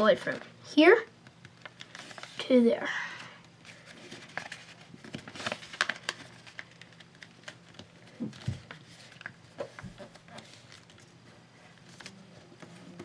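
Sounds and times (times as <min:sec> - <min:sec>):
paper folding and crinkling: 0:01.4 - 0:02.6, 0:03.6 - 0:13.0.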